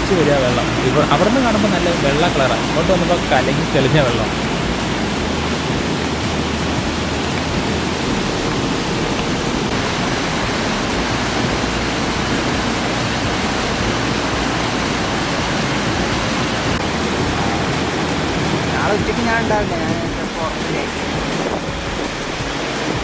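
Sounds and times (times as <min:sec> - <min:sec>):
floodwater rushing down stream: 0:00.0 - 0:23.0.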